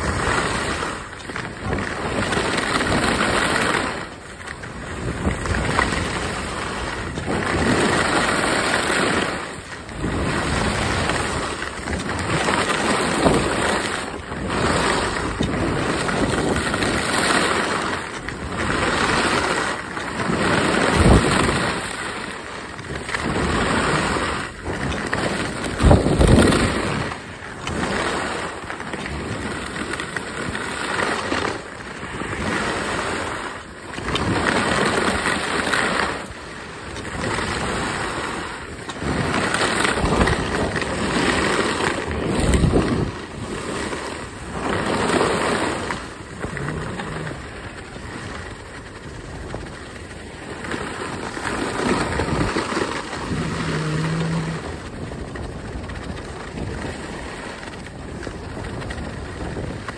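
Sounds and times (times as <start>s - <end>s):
skis scraping over snow: 0.0s - 59.9s
wind rumbling on microphone: 0.0s - 59.9s.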